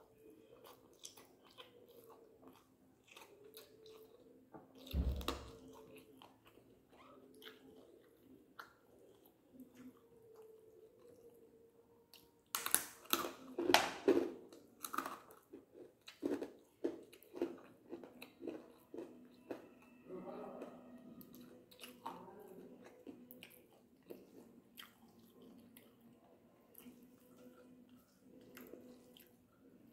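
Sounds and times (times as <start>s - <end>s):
person chewing: 0.0s - 11.5s, 12.1s - 29.9s.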